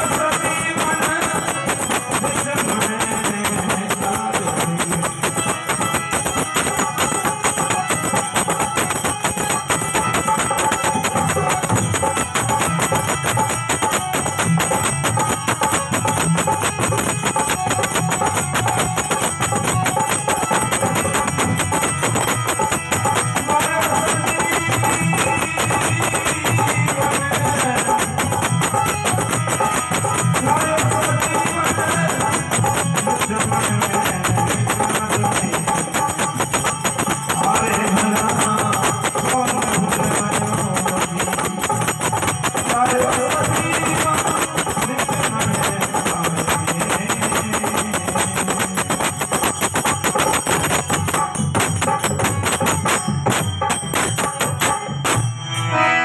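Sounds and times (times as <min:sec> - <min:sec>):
percussion with jingling: 0:00.0 - 0:55.8
harmonium devotional melody: 0:00.0 - 0:56.0.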